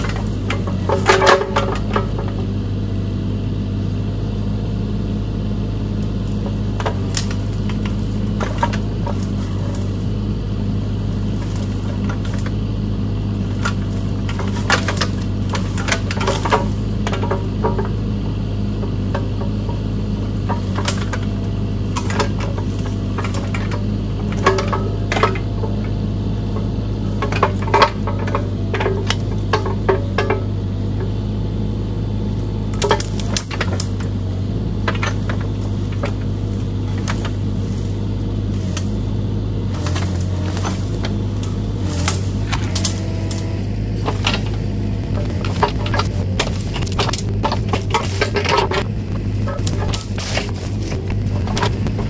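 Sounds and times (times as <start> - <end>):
metal clanks and knocks: 0.0 - 2.8, 6.2 - 10.2, 11.1 - 31.3, 32.4 - 39.0, 39.6 - 52.0
diesel engine running: 0.0 - 52.0.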